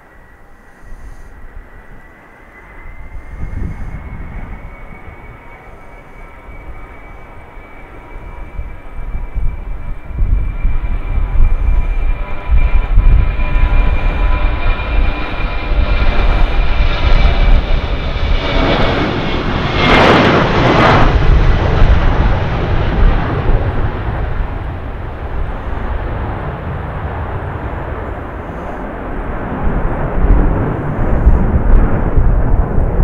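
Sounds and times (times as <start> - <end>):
high jet engine whine: 0.0 - 33.0
jet engines roaring at takeoff: 0.0 - 33.0.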